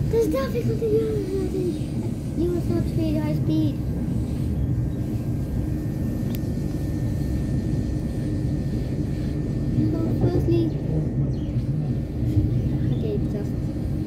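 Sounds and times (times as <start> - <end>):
train rumble from inside carriage: 0.0 - 14.0.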